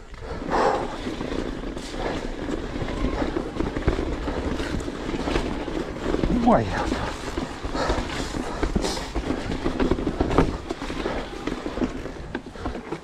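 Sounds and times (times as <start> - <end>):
bike rattling: 0.0 - 13.0.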